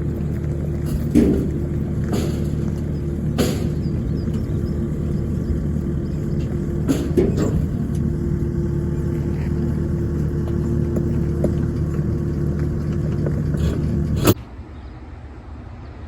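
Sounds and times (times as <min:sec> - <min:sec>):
vehicle engine and road drone: 0:00.0 - 0:16.0.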